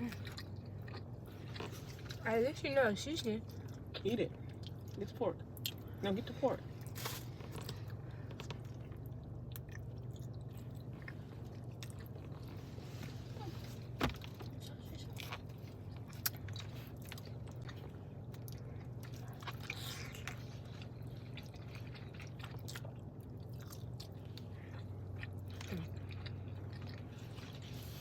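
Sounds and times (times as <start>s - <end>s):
person chewing food: 0.0s - 2.2s, 3.4s - 6.0s, 6.8s - 28.0s.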